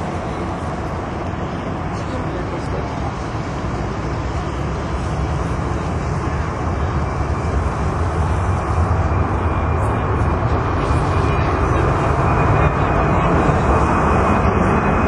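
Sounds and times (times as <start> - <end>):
airplane engine rumble: 0.0 - 15.0.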